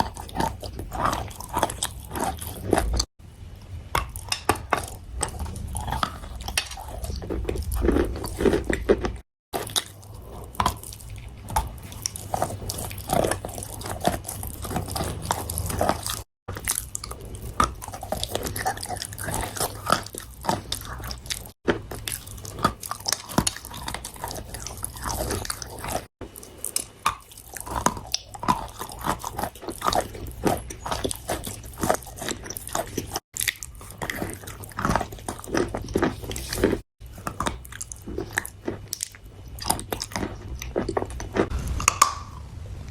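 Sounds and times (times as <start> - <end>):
chewing crunchy food: 0.0 - 42.5.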